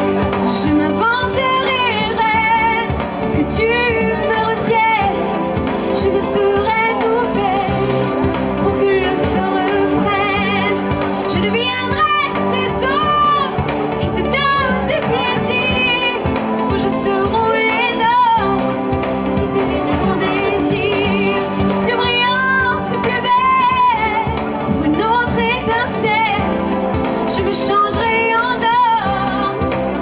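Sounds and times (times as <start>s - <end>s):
instrumental backing music: 0.0s - 30.0s
woman singing pop ballad: 0.0s - 30.0s.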